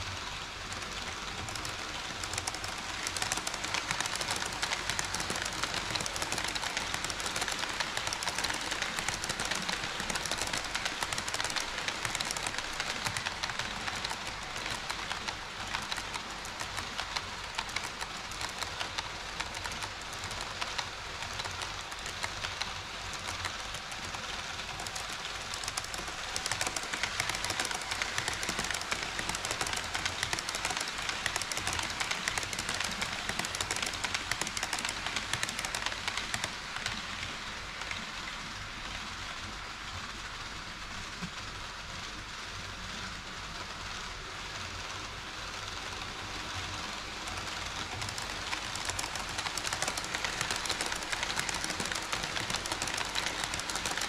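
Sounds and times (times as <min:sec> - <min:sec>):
model train wheels clattering: 0:00.0 - 0:39.7, 0:42.2 - 0:54.0.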